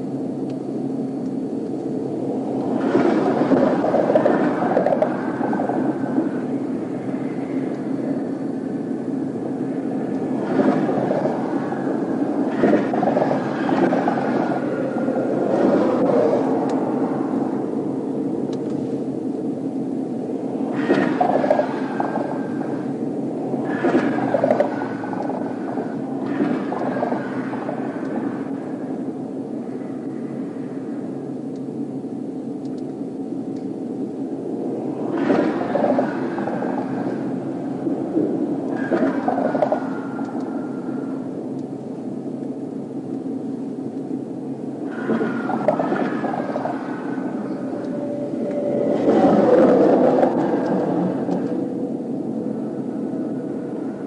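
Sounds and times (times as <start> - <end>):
highway traffic rumble: 0.0 - 54.0.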